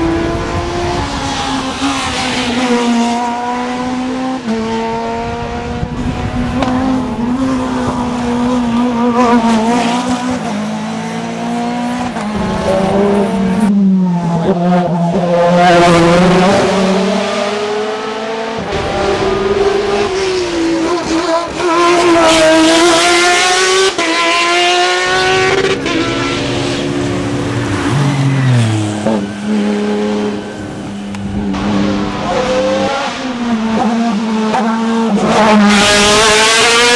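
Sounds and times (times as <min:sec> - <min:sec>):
racing car engine accelerating: 0:00.0 - 0:36.9.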